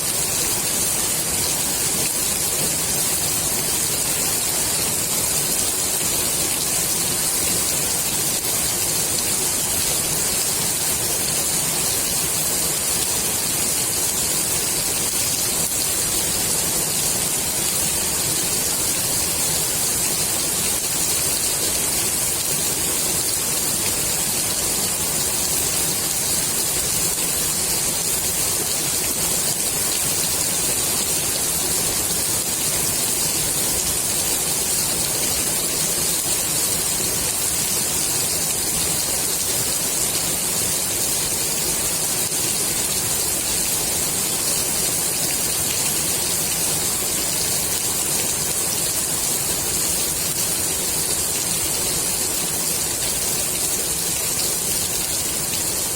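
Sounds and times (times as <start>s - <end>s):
heavy rain on water: 0.0s - 55.9s.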